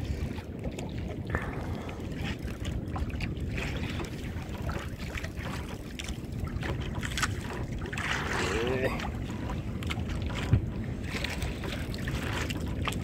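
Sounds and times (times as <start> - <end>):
sea noise: 0.0 - 13.0
wind buffeting microphone: 0.0 - 13.0.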